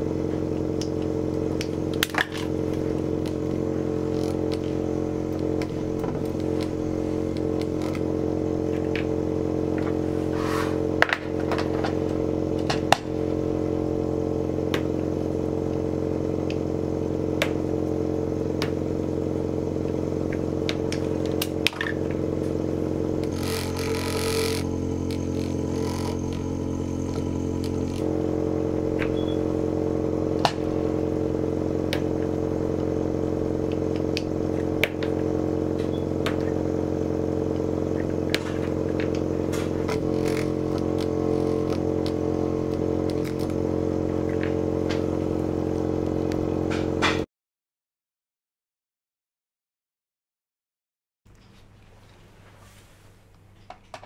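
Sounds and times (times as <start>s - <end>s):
laboratory equipment hum: 0.0s - 47.3s.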